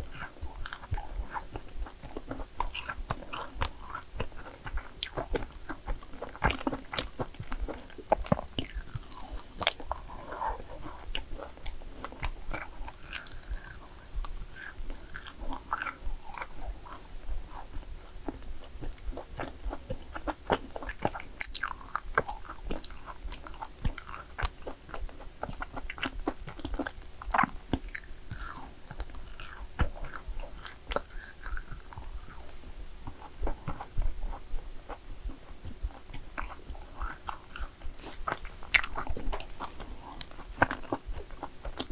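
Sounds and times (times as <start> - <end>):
crisp cookie crunching: 0.0 - 41.9.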